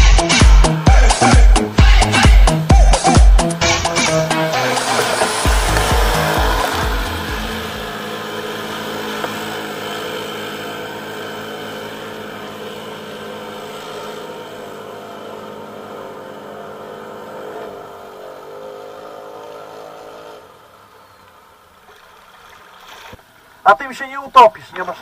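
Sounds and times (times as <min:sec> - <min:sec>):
quad engines running: 0:00.0 - 0:23.8, 0:24.4 - 0:25.0.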